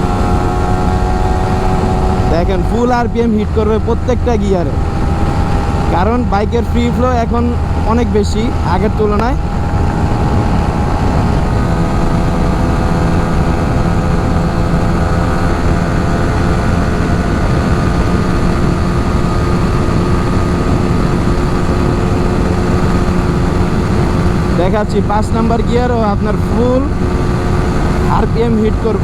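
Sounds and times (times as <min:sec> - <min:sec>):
wind rushing: 0:00.0 - 0:25.1
motorcycle engine running: 0:00.0 - 0:29.0.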